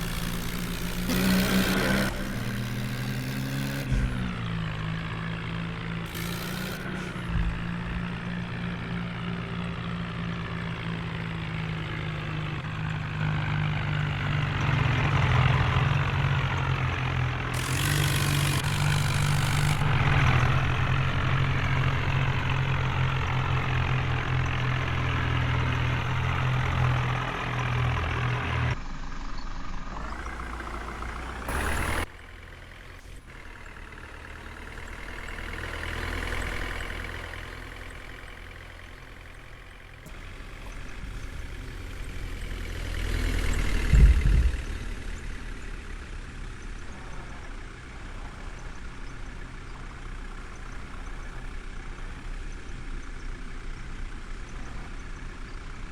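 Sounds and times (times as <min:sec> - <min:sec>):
diesel machinery engine running: 0:00.0 - 0:55.9.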